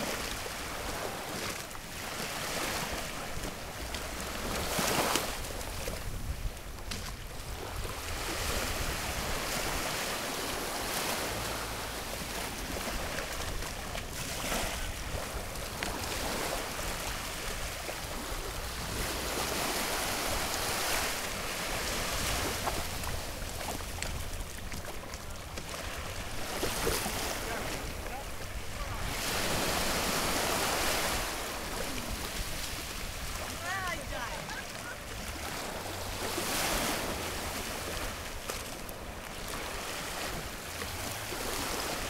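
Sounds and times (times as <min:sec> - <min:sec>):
surf washing on sandy beach: 0:00.0 - 0:42.0
wind rumbling on microphone: 0:00.0 - 0:42.0.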